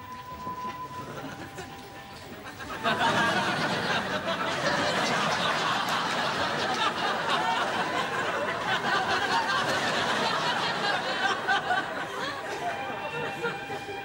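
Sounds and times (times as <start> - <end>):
audience laughing: 1.0 - 14.0.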